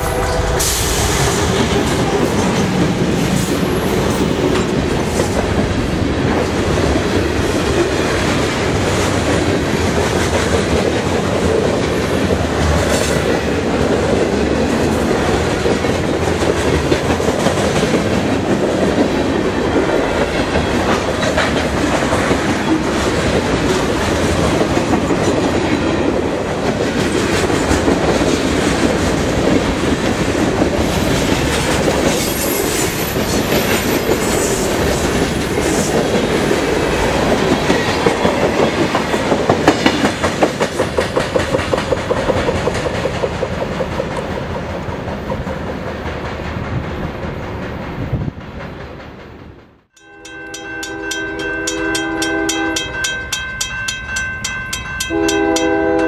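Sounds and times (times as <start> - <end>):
freight train wheels clattering: 0.0 - 49.9.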